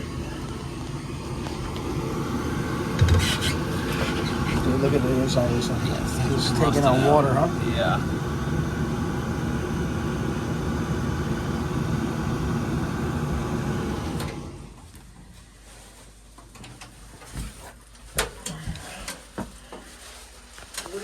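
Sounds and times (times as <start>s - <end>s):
furnace motor humming: 0.0s - 21.0s.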